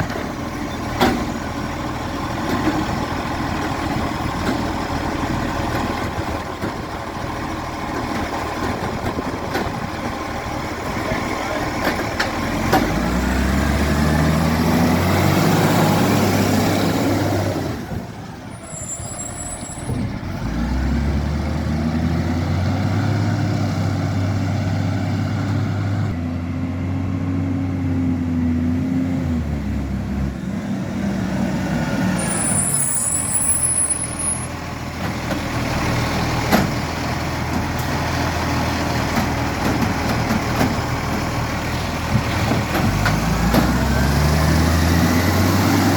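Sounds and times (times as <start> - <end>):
garbage truck engine revving: 0.0 - 45.9.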